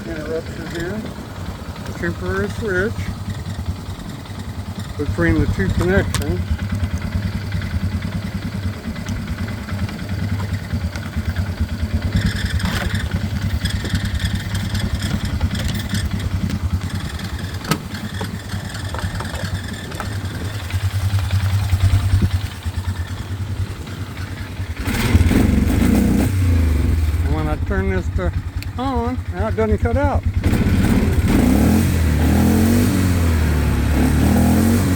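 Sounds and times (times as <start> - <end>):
atv engine idling unevenly: 0.0 - 34.8.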